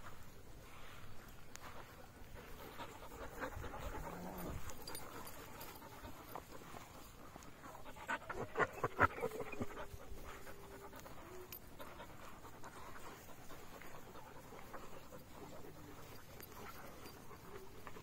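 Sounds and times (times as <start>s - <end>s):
dogs panting: 0.0s - 18.0s.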